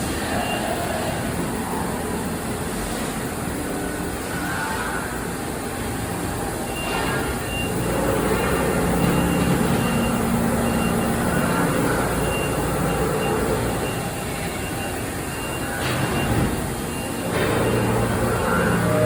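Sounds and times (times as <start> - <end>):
machine hum and whir: 0.0 - 19.0.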